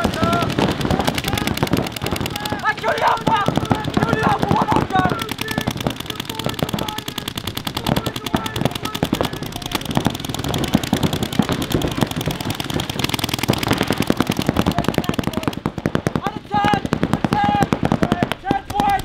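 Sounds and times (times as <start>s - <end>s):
paintball guns firing rapidly: 0.0s - 19.0s.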